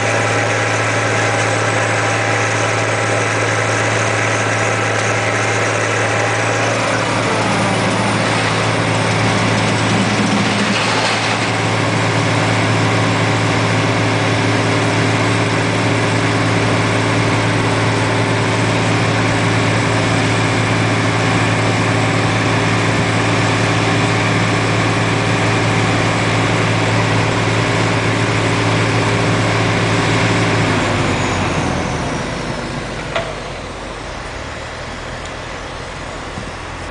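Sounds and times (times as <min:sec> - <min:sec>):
background engine noise: 0:00.0 - 0:36.9
vibratory pile hammer droning: 0:00.0 - 0:36.9.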